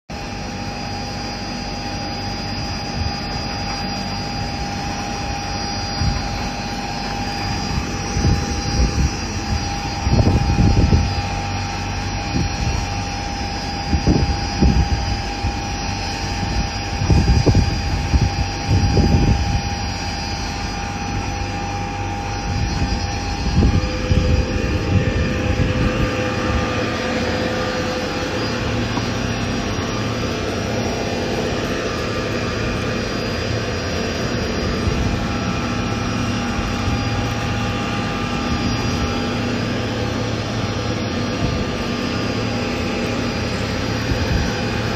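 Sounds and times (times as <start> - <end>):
extruder machine motor drone: 0.1 - 44.9
low rumbling surges: 4.2 - 44.9.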